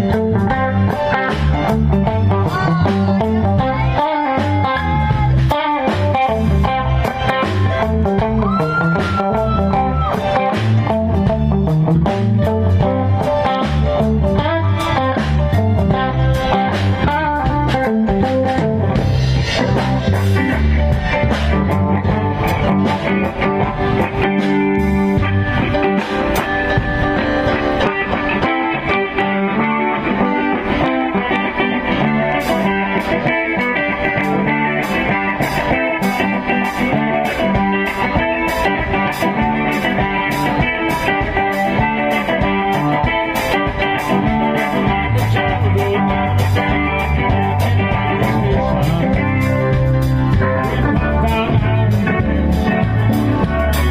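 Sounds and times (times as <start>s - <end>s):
bass notes: 0.0s - 53.9s
blues-rock band music: 0.0s - 53.9s.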